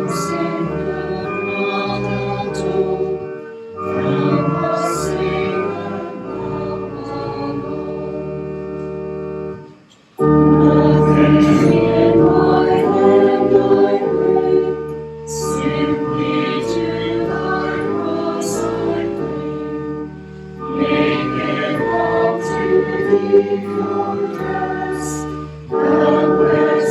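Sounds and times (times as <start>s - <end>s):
choir singing a hymn: 0.0s - 26.9s
keyboard chords: 0.0s - 26.9s.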